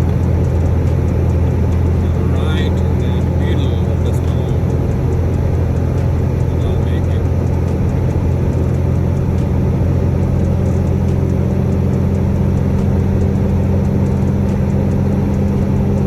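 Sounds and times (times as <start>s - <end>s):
road noise: 0.0s - 16.0s
truck engine running: 0.0s - 16.0s.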